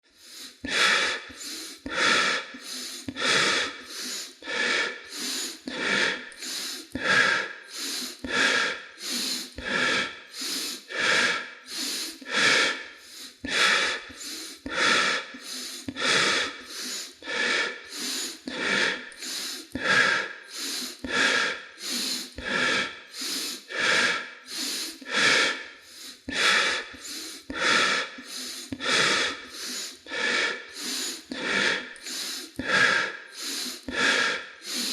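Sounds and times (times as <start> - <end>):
person breathing rapidly: 0.0 - 34.9.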